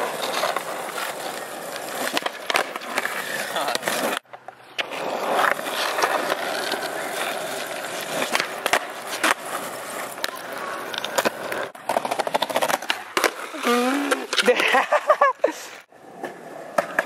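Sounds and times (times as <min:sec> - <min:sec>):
skateboard clacking on pavement: 0:00.0 - 0:14.6, 0:16.1 - 0:17.0
skateboard wheels rolling on asphalt: 0:00.0 - 0:17.0.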